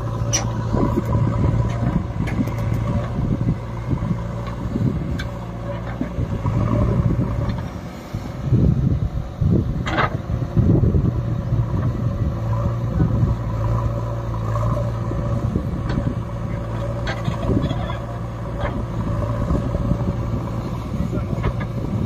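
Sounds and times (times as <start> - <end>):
backhoe digging soil: 0.0 - 22.0
diesel engine under load: 0.0 - 22.0.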